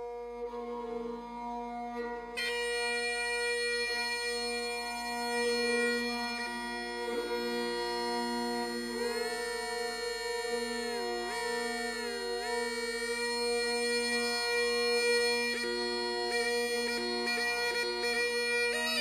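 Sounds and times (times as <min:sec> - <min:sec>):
reed pipe drone and melody: 0:00.0 - 0:19.0.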